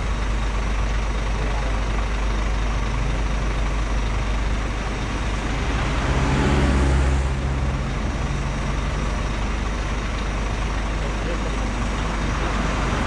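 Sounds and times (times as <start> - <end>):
road noise: 0.0 - 13.0
truck engine hum: 0.0 - 13.0.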